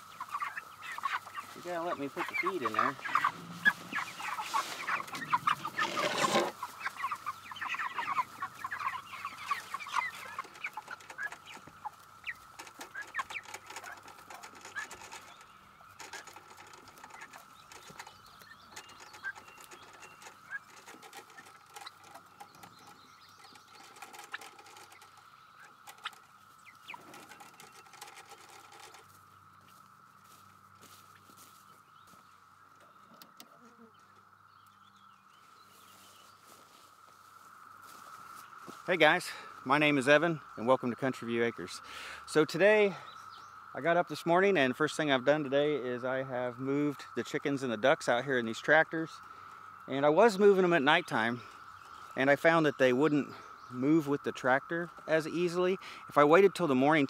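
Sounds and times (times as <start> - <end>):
chickens peeping and clucking: 0.0 - 57.0.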